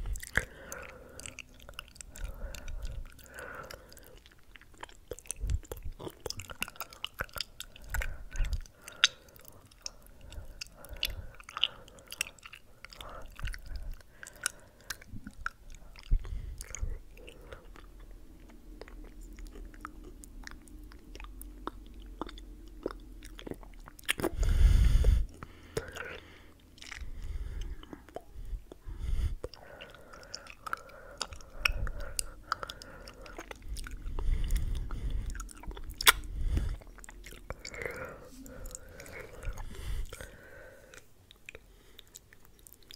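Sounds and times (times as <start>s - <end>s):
deep mouth sound: 0.0s - 41.6s
mouth clicks: 0.0s - 42.9s.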